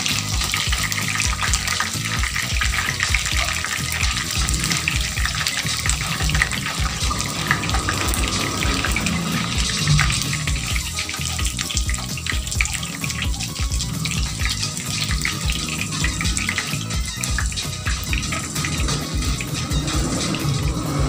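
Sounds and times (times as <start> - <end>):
oil sizzling and crackling: 0.0 - 21.0.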